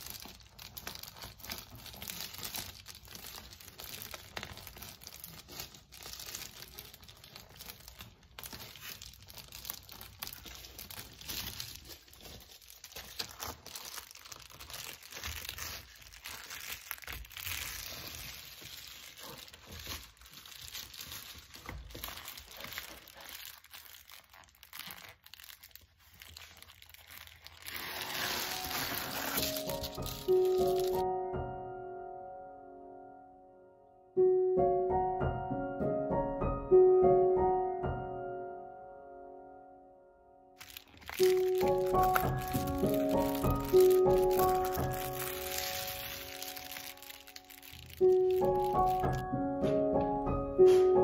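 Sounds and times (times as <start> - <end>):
foil insulation crinkling: 0.0 - 31.1, 40.6 - 51.0.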